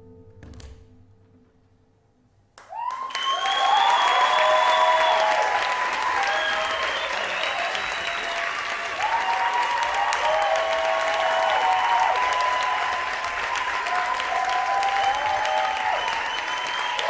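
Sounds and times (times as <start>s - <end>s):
audience applause: 2.6s - 17.0s
audience cheering: 2.6s - 17.0s.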